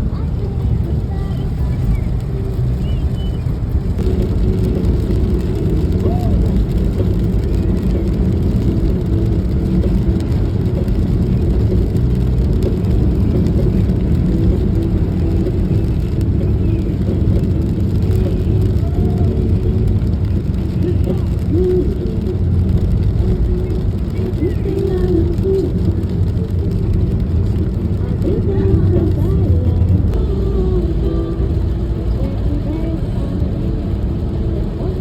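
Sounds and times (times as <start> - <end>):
vehicle low rumble: 0.0 - 35.0.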